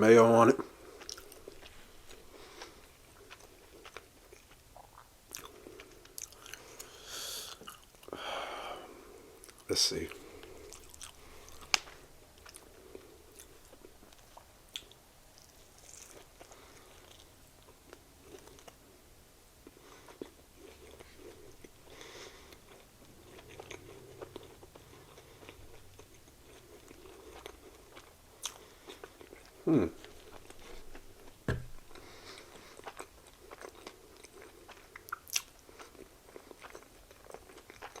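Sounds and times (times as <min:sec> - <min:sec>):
chewing and biting sandwich: 0:00.7 - 0:08.2, 0:09.4 - 0:18.9, 0:19.6 - 0:38.0.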